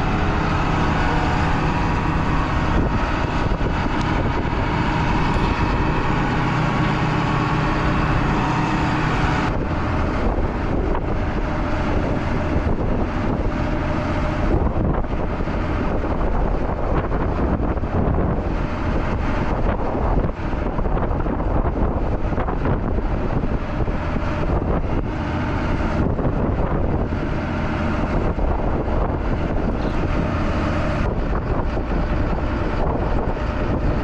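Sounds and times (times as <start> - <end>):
heavy engine running: 0.0 - 34.0
wind buffeting microphone: 0.0 - 34.0.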